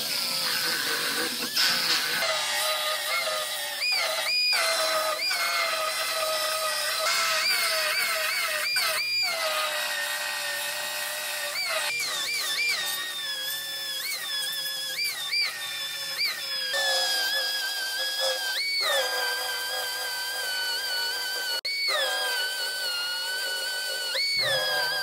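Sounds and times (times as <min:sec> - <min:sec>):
pneumatic tool cutting steel: 0:00.0 - 0:25.0.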